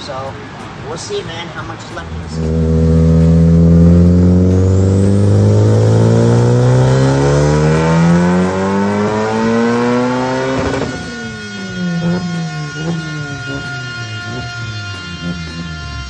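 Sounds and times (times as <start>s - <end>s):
car engine revving at full throttle: 2.0s - 16.0s
engine hitting rev limiter: 2.0s - 16.0s.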